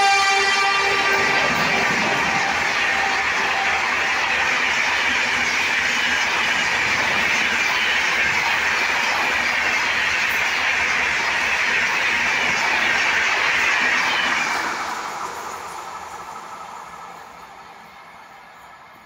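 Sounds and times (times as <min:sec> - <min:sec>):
train wheels rushing on rail: 0:00.0 - 0:19.0.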